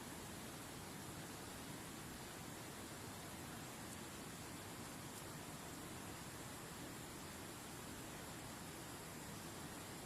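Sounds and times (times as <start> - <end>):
faint waterfall rushing: 0.0 - 10.0.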